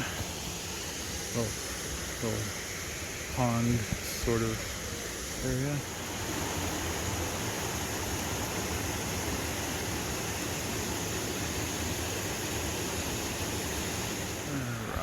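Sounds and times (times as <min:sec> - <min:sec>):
stream rushing over cascade: 0:00.0 - 0:15.0.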